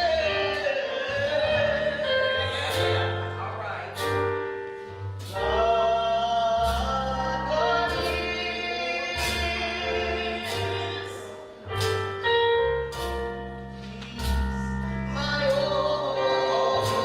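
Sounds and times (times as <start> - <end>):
gospel choir singing: 0.0 - 17.0.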